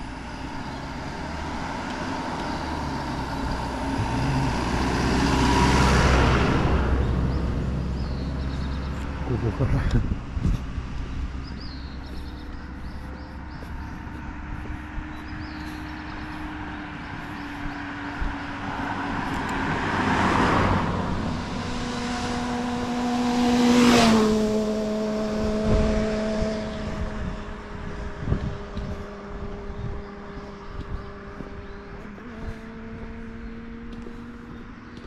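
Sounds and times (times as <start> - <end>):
cars passing by: 0.0 - 35.0.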